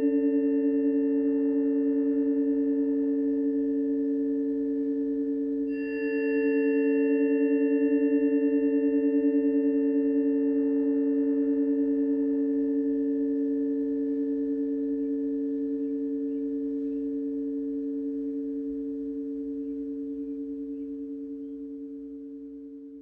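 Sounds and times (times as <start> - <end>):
tuning forks ringing: 0.0 - 23.0.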